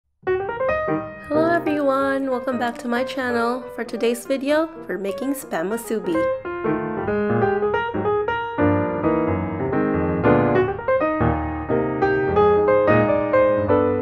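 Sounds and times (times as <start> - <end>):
piano-led background music: 0.2 - 14.0.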